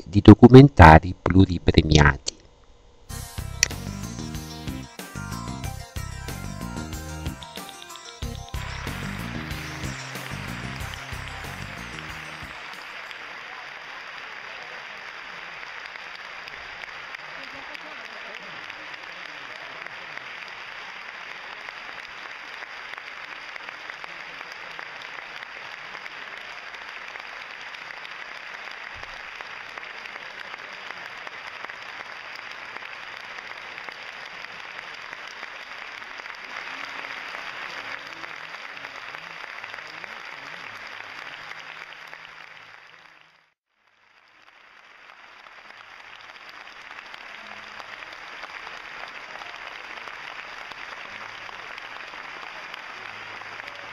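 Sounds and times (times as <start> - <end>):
large audience applauding: 3.6 - 53.9.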